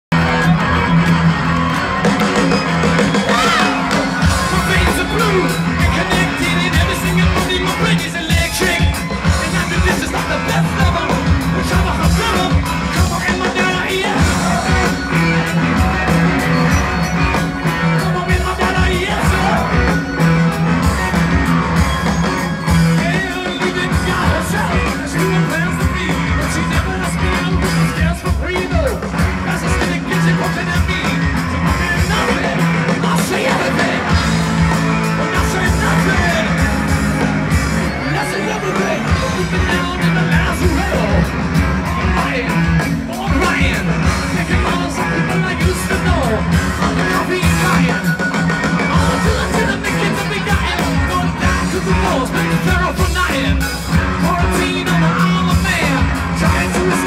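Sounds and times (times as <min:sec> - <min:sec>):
crowd shouts and whoops: 0:00.1 - 0:57.0
electric guitar: 0:00.1 - 0:57.0
live rock band playing: 0:00.1 - 0:57.0.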